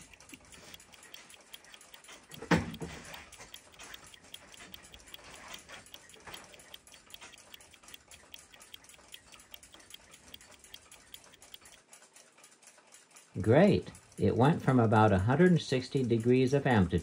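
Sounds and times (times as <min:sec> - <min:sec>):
clock ticking faintly: 0:00.0 - 0:17.0.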